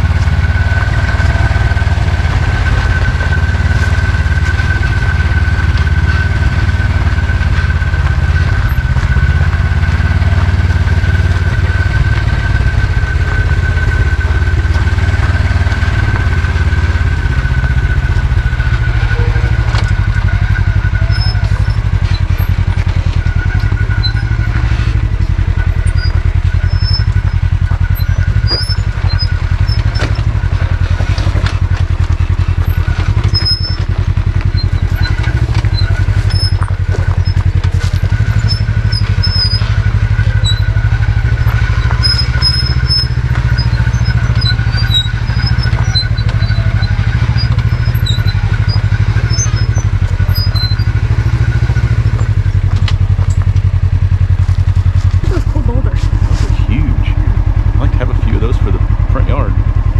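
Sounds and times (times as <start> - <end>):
engine low pulsing rumble: 0.0 - 59.9.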